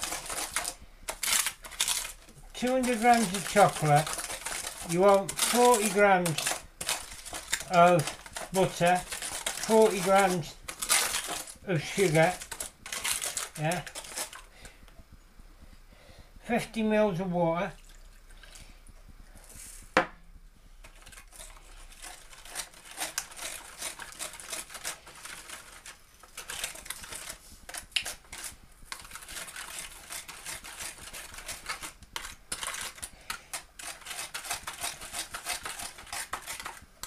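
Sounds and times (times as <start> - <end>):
metal spoon scraping foil tray: 0.0 - 14.5, 20.9 - 36.9.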